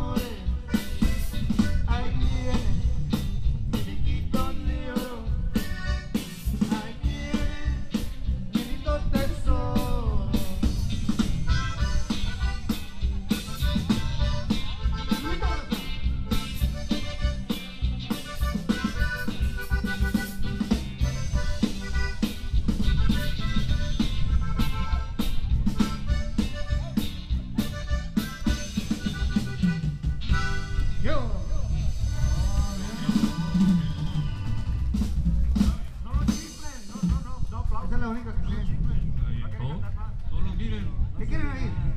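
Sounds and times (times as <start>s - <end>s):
accordion: 0.0s - 37.4s
drum kit beat: 0.0s - 37.8s
bajo sexto: 0.0s - 40.6s
bass: 0.0s - 41.9s.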